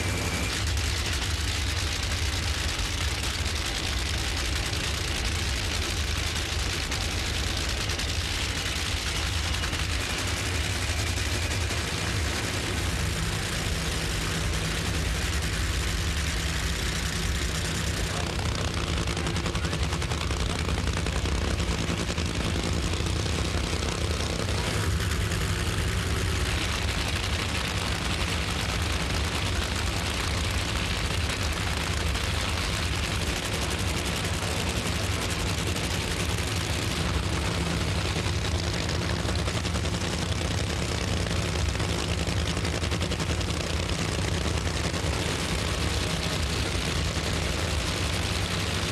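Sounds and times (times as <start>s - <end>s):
drag racing engines rumbling: 0.0s - 48.9s.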